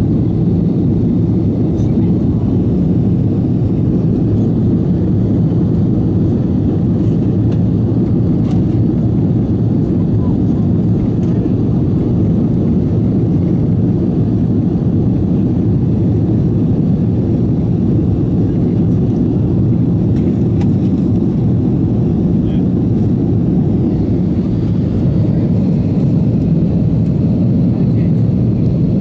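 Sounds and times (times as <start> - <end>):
airliner cabin engine rush: 0.0 - 29.0.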